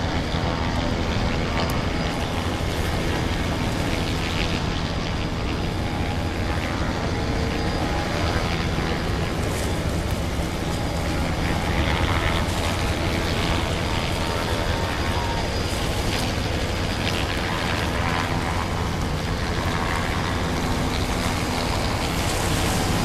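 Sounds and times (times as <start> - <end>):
boat engines droning: 0.0 - 23.0
wind: 0.0 - 23.0
water rushing: 1.8 - 23.0.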